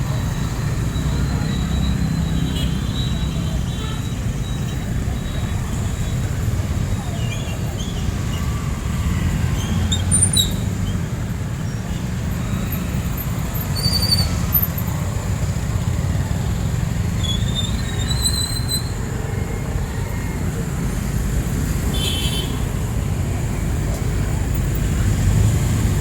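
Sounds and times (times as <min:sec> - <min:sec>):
rumble of passing vehicles: 0:00.0 - 0:26.0.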